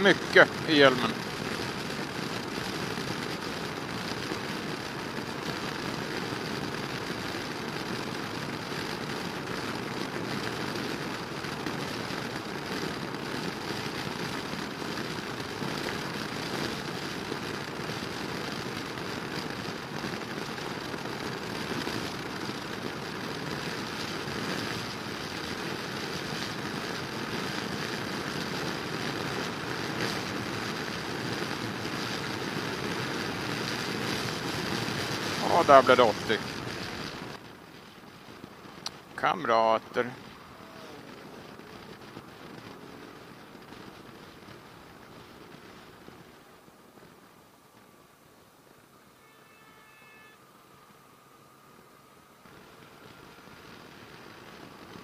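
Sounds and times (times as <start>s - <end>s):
wind and road rush in helmet: 0.0s - 55.0s.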